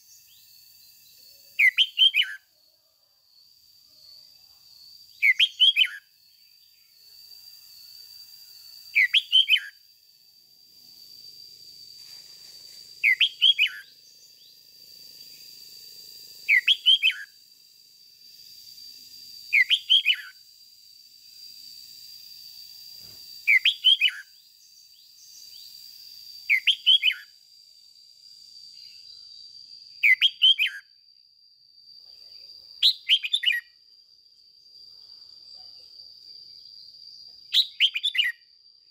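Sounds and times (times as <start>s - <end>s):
thin steady high tone: 0.0s - 37.3s.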